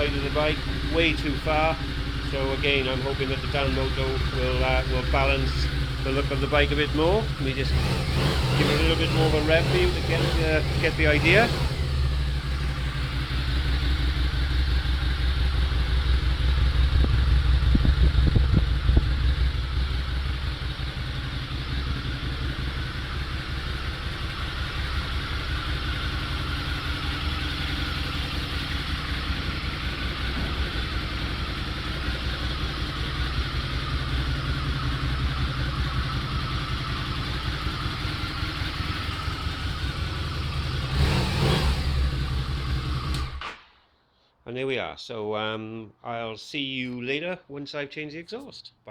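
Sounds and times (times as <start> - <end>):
motorcycle engine idling: 0.0 - 43.5.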